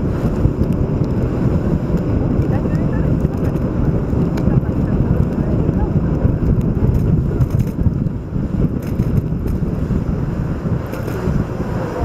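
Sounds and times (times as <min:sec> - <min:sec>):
boat engine running: 0:00.0 - 0:12.0
water: 0:00.0 - 0:12.0
wind buffeting microphone: 0:00.0 - 0:12.0.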